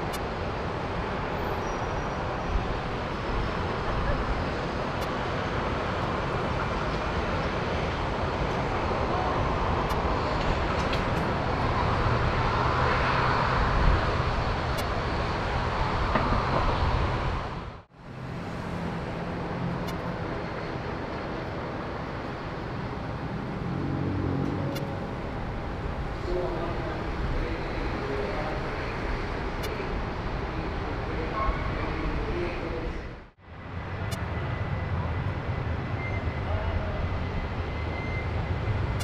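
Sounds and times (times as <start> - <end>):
aircraft engine noise: 0.0 - 39.0.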